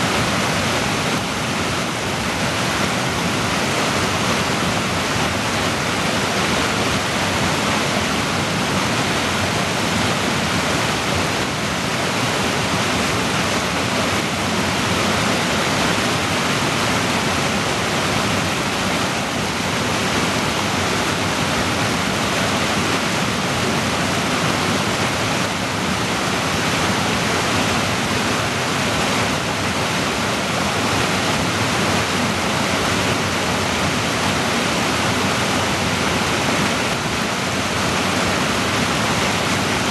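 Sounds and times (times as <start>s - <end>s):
creek rushing over boulders: 0.0s - 39.9s.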